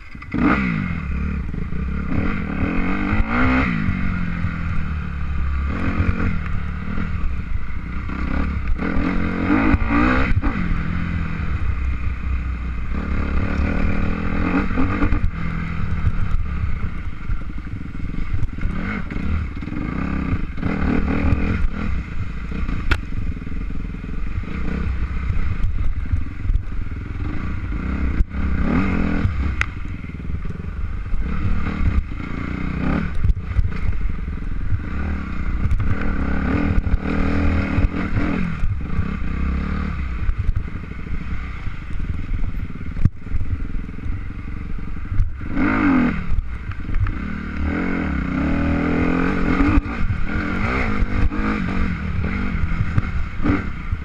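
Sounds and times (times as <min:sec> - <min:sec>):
engine revving: 0:00.0 - 0:54.0
low rumble: 0:00.0 - 0:54.0.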